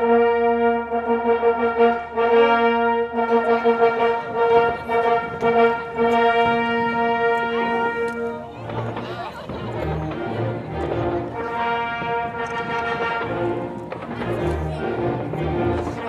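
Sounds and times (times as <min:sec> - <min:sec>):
long steady horn tone: 0:00.0 - 0:09.0, 0:09.7 - 0:16.0
faint fireworks crackle: 0:02.2 - 0:16.0.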